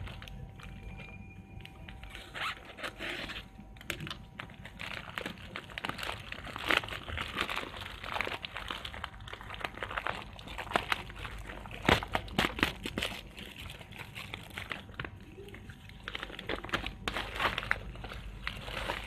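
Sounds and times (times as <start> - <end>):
plastic bag crinkling and tearing: 0.0 - 19.0.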